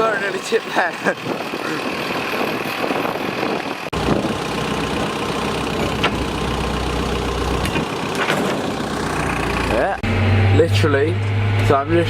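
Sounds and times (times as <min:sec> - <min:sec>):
tractor engine running: 0:00.0 - 0:12.0
deep heavy rumble: 0:01.3 - 0:12.0.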